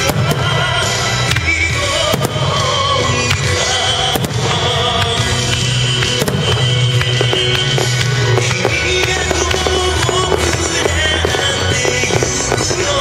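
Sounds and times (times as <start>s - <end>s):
firework shells bursting: 0.0s - 13.0s
music playing: 0.0s - 13.0s.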